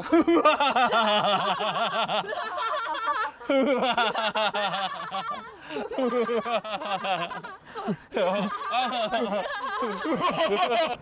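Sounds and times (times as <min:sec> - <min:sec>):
people laughing together: 0:00.0 - 0:11.0.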